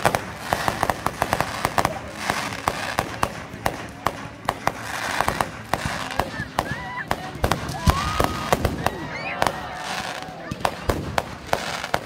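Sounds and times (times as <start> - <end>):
fireworks bangs and crackles: 0.0 - 12.0
fireworks hissing: 0.0 - 12.0.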